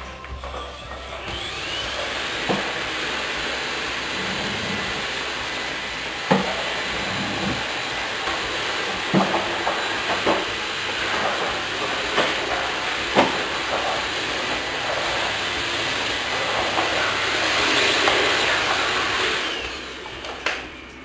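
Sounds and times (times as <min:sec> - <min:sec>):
stick vacuum cleaner running: 0:00.0 - 0:21.0.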